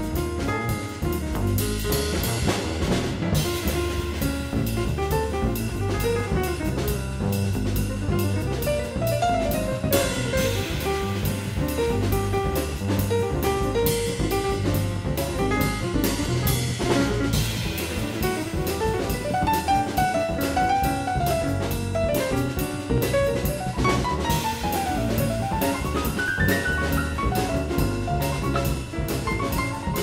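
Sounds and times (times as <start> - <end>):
drum kit beat: 0.0 - 30.0.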